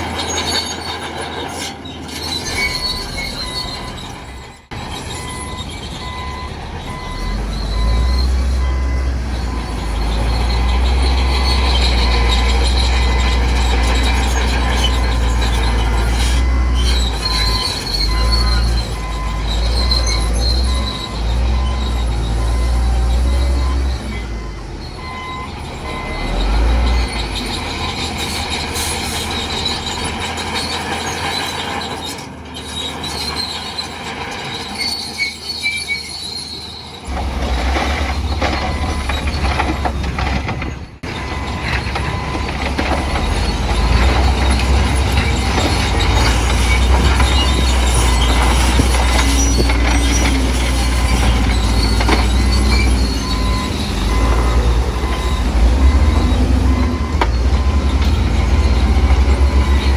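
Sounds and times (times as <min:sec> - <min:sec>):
bulldozer diesel engine under load: 0:00.0 - 0:59.9
crawler tracks squealing and clanking: 0:00.0 - 0:59.9.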